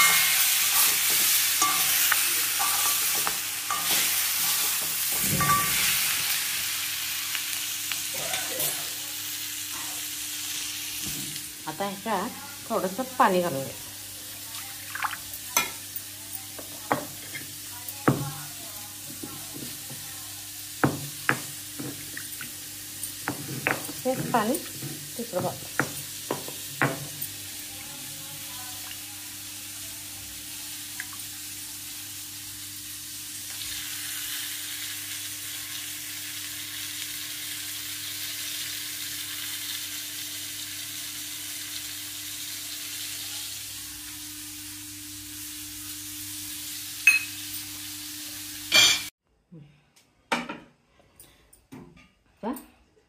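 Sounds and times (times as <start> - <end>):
curry sizzling in oil: 0.0 - 49.2.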